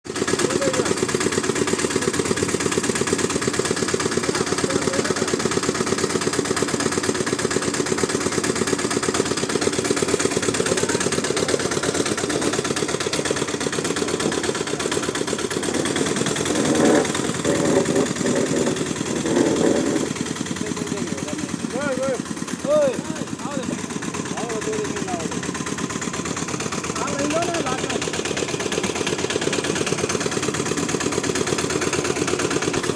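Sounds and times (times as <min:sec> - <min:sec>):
small diesel engine running: 0:00.0 - 0:32.9.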